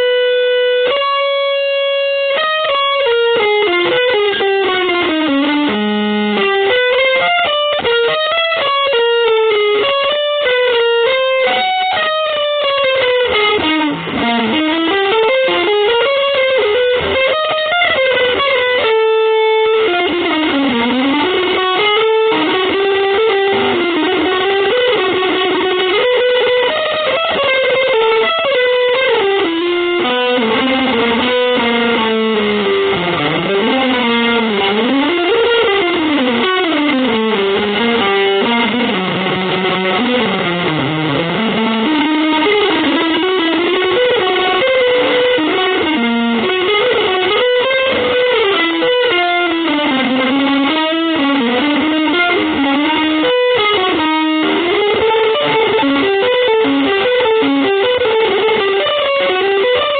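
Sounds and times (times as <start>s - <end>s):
electric guitar melody: 0.0s - 59.9s.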